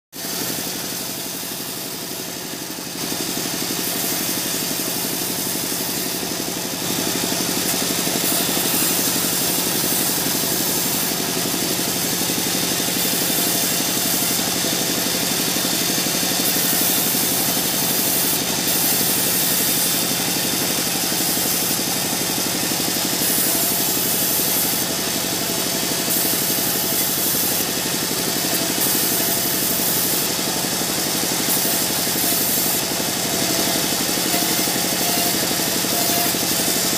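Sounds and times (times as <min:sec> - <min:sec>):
band saw cutting log: 0:00.2 - 0:36.9.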